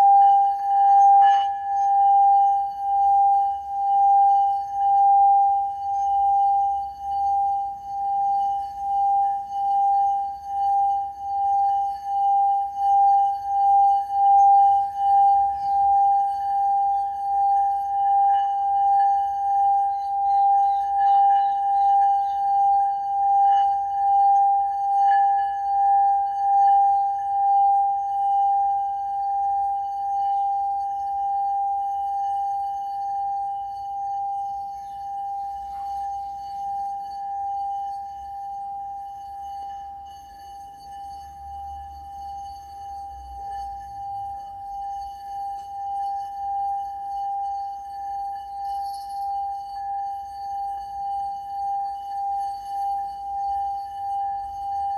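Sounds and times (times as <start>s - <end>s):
singing bowl held tone: 0.0s - 54.9s.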